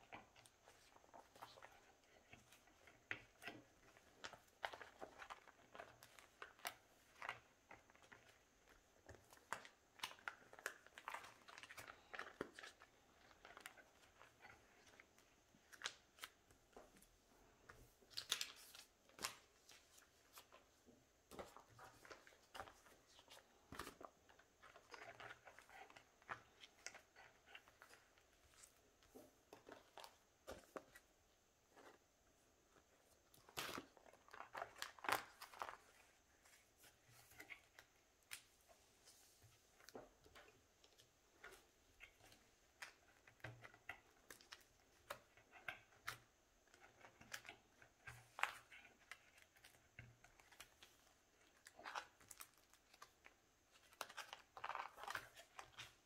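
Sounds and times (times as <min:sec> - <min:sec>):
plastic sleeves rustling: 0:00.0 - 0:56.0.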